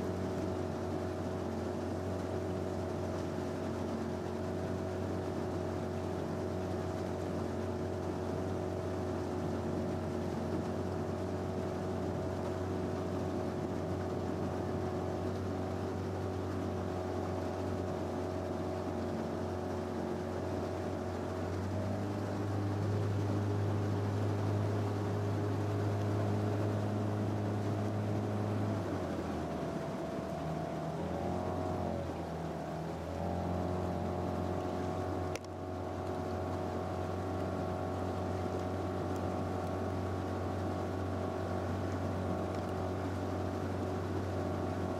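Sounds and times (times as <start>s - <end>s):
motorboat engine running: 0.0s - 44.9s.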